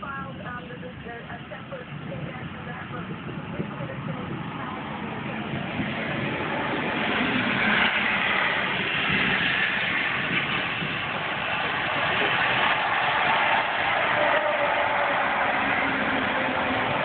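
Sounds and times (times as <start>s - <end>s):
road and engine noise in car: 0.0s - 17.0s.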